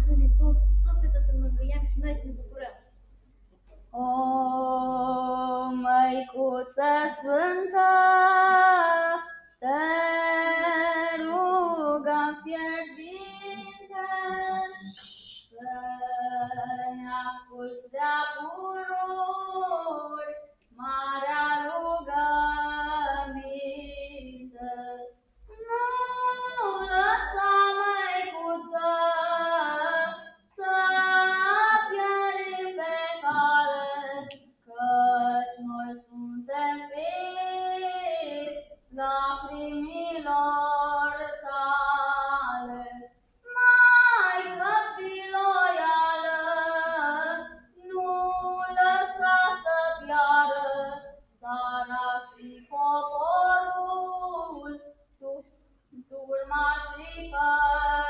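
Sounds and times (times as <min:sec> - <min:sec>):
child singing unaccompanied: 0:00.0 - 0:02.6, 0:04.0 - 0:55.4, 0:56.0 - 0:58.0.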